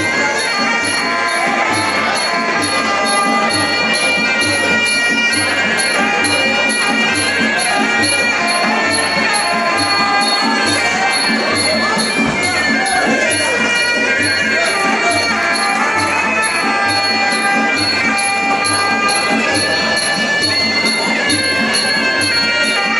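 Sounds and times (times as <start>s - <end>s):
drums: 0.0s - 22.9s
oboe wailing melody: 0.0s - 22.9s
small cymbal steady beat: 0.0s - 22.9s.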